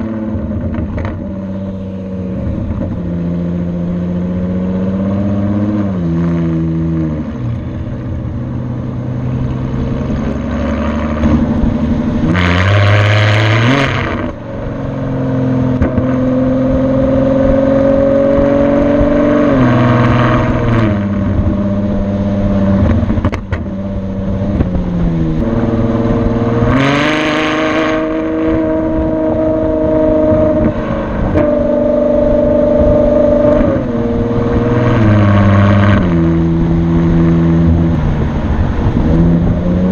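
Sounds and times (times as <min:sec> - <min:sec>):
car engine revving through gear changes: 0:00.0 - 0:07.6, 0:09.0 - 0:39.9.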